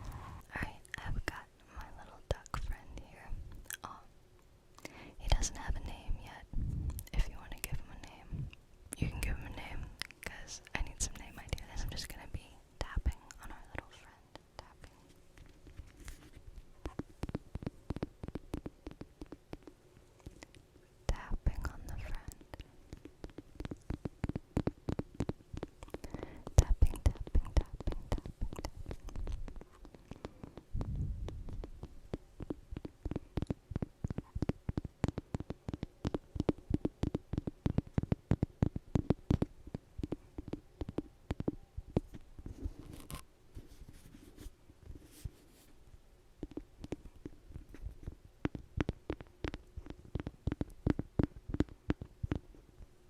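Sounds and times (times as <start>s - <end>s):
soft taps and crackles on microphone: 0.0s - 4.0s, 4.8s - 53.0s.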